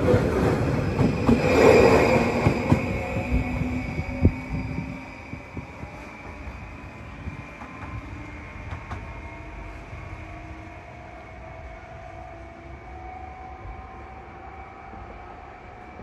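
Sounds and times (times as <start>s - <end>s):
train wheels rumbling on rails: 0.0s - 12.8s.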